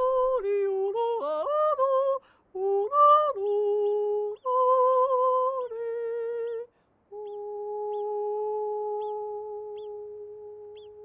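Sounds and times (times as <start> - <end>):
woman yodeling: 0.0 - 11.0.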